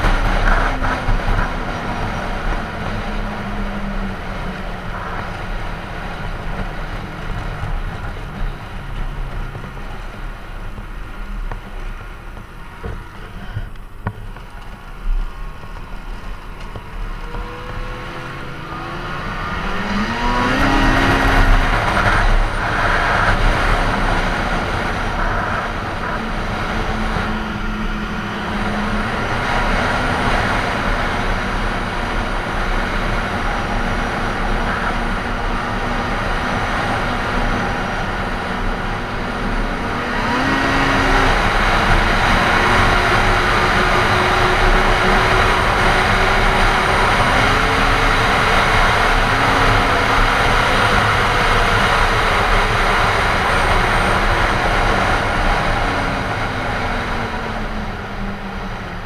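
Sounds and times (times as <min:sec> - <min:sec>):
snowmobile engine: 0:00.0 - 0:59.0.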